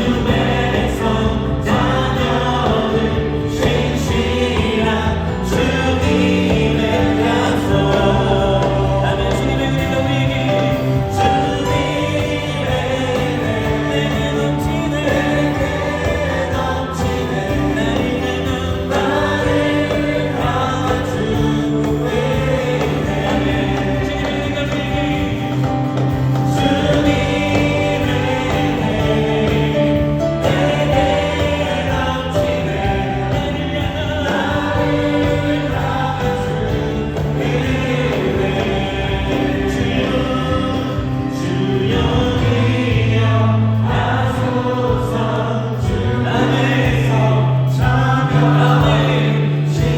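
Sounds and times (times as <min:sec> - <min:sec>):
group of singers singing: 0:00.0 - 0:49.9
live band playing worship song: 0:00.0 - 0:49.9.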